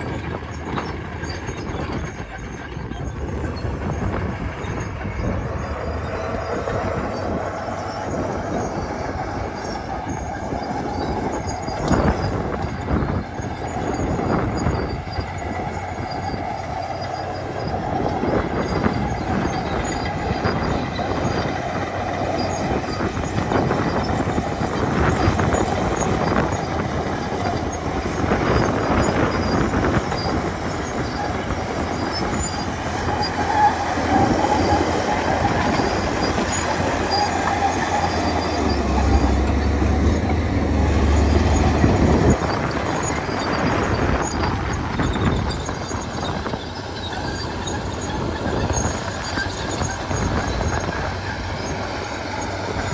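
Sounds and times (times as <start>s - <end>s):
bulldozer diesel engines roaring: 0.0s - 52.9s.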